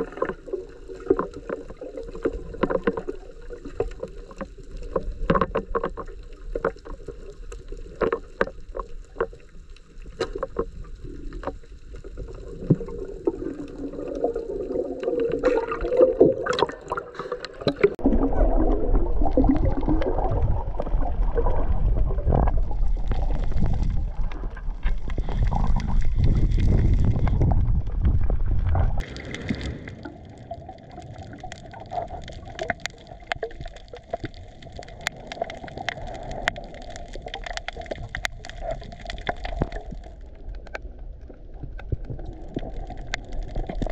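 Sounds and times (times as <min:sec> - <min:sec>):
underwater clicks and crackles: 0:00.0 - 0:43.9.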